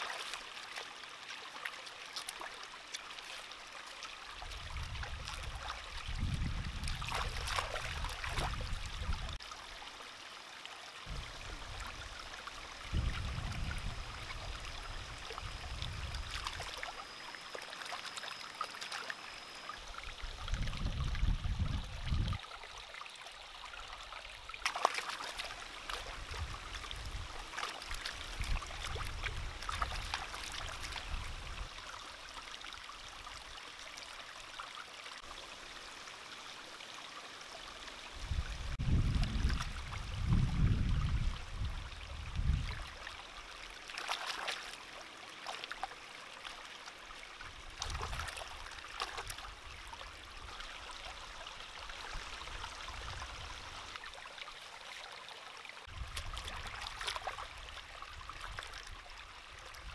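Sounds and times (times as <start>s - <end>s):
small stream trickling: 0.0s - 59.9s.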